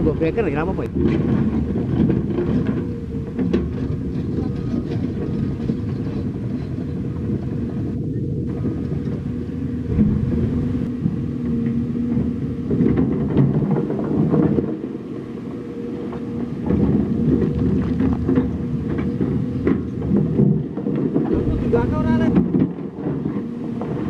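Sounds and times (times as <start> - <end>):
diesel machinery rumbling: 0.0 - 24.0.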